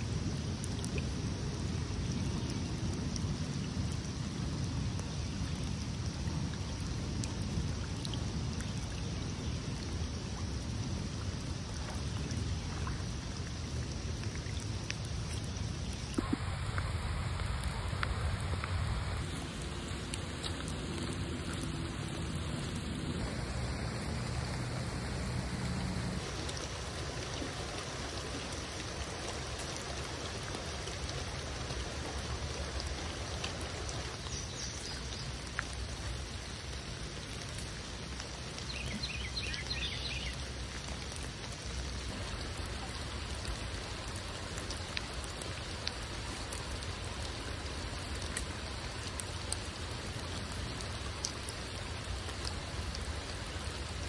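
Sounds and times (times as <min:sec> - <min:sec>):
rain on foliage: 0:00.0 - 0:54.0
water dripping: 0:00.0 - 0:54.0.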